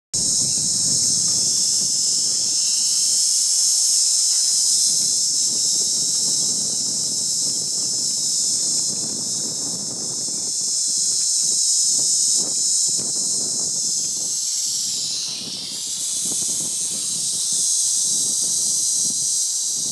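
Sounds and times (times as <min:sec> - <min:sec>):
high-pitched hiss: 0:00.2 - 0:19.9.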